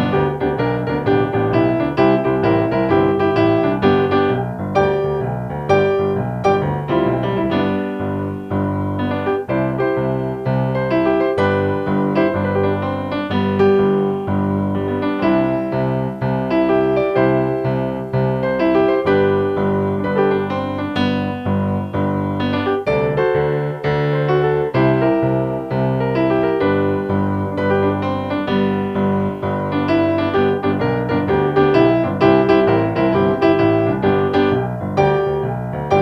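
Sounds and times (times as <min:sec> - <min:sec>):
piano playing lively chords: 0:00.0 - 0:36.0.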